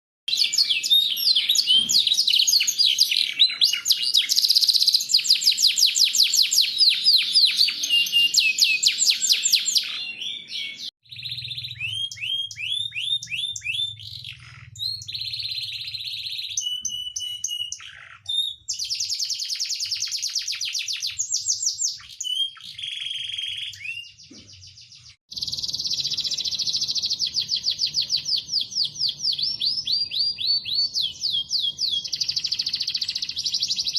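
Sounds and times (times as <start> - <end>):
canary singing trills: 0.3 - 33.9.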